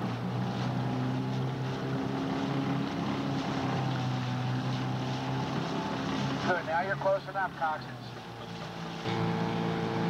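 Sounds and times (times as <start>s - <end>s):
outboard motor humming: 0.0s - 10.0s.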